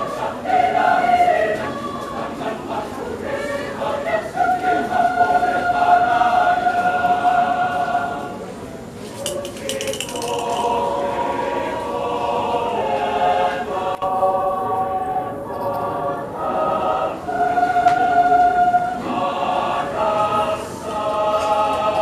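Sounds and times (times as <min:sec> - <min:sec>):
mixed choir singing in harmony: 0:00.0 - 0:22.0.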